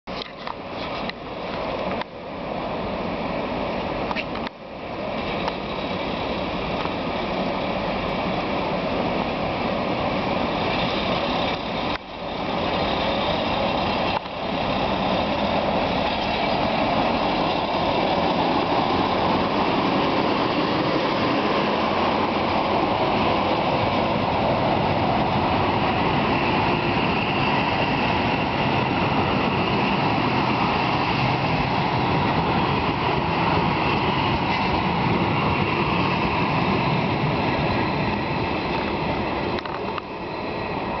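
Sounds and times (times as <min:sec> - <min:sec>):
train rolling on rails: 0:00.1 - 0:41.0.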